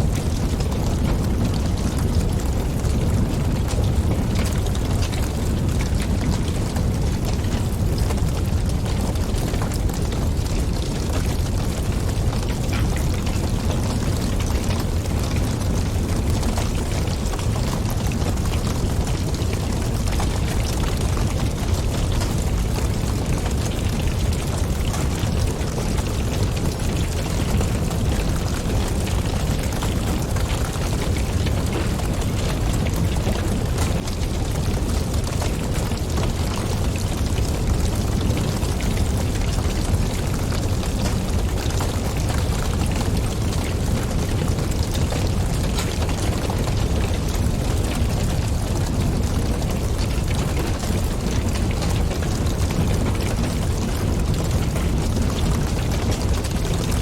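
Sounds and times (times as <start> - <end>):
fire crackling and popping: 0.0 - 57.0
low rumble of flames and wind: 0.0 - 57.0.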